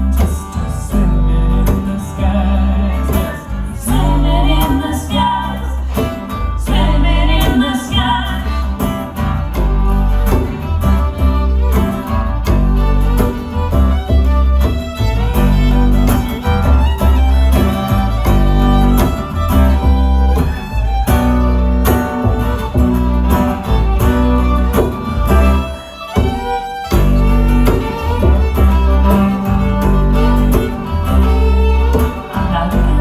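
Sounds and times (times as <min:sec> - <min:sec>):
bass line: 0:00.0 - 0:33.0
fiddle: 0:00.0 - 0:33.0
guitar: 0:00.0 - 0:33.0.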